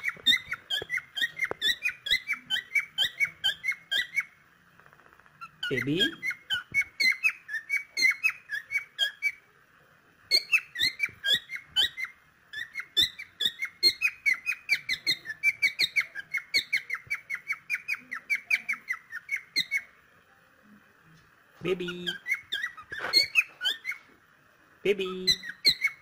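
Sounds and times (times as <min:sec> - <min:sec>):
cockatiel chirping: 0:00.0 - 0:04.4, 0:05.4 - 0:09.4, 0:10.3 - 0:19.9, 0:21.7 - 0:24.1, 0:25.0 - 0:26.0.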